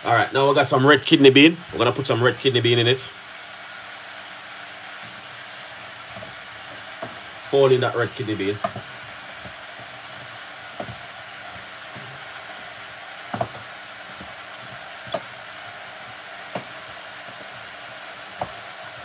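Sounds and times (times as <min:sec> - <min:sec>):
vegetables sizzling in pot: 0:00.0 - 0:19.0.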